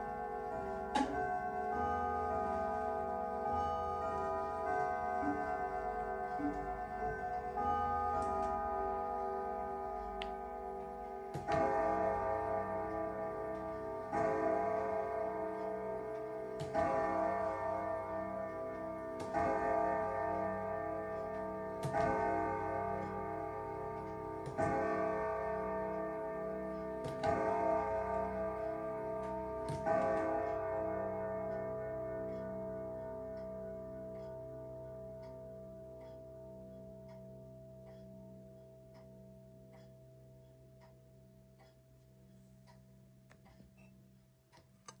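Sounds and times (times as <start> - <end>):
grandfather clock striking: 0.0 - 43.6
clock ticking: 3.4 - 45.0.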